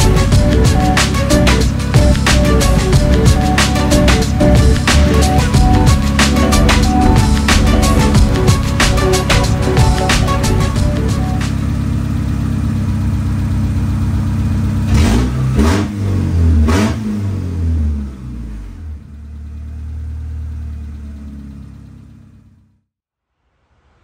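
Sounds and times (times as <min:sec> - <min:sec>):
car engine revving: 0:00.0 - 0:22.6.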